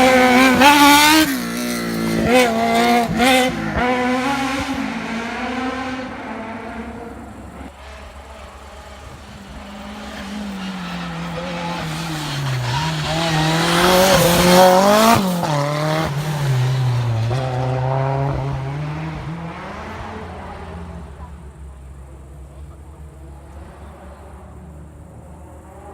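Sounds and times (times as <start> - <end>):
racing car engine revving: 0.0 - 25.9.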